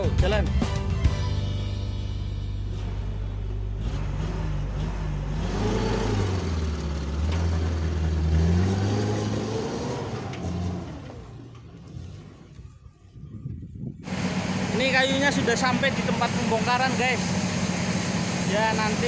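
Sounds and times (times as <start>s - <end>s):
truck engine revving: 0.0s - 13.0s, 14.0s - 19.0s.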